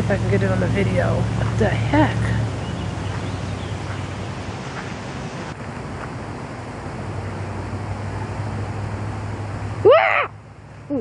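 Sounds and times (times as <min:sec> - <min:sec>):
wind rumbling on microphone: 0:00.0 - 0:09.4.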